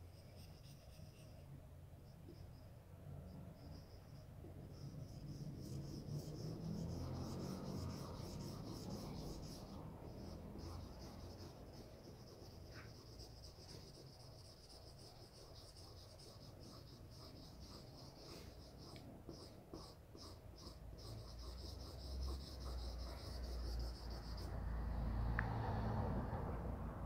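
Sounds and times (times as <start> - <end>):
marker scratching on paper: 0.0 - 1.4, 3.7 - 24.5.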